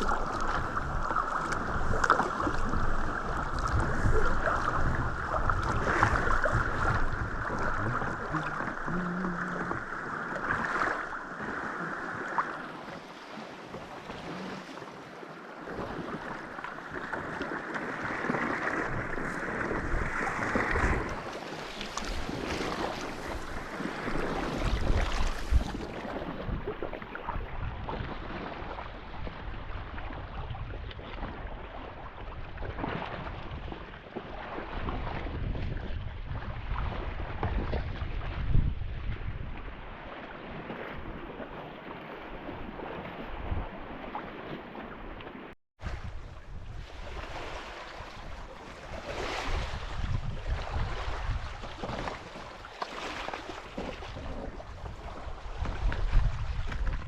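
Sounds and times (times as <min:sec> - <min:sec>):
wind buffeting microphone: 0:00.0 - 0:12.4, 0:17.0 - 0:41.5, 0:45.8 - 0:57.0
water splashing around kayak: 0:00.0 - 0:57.0.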